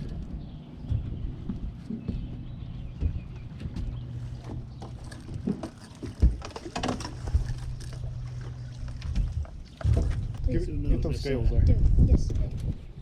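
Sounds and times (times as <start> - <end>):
boat motor running: 0.0 - 13.0
knocks and rattles in boat: 0.0 - 13.0.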